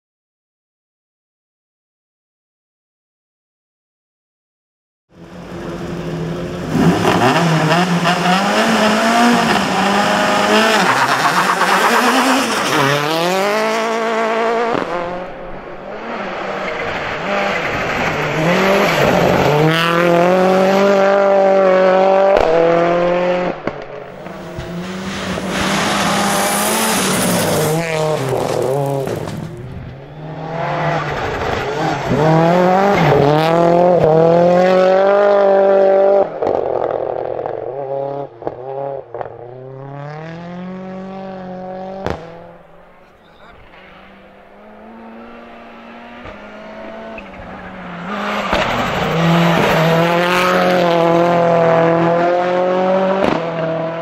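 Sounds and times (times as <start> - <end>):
rally car engine revving: 5.2 - 54.0.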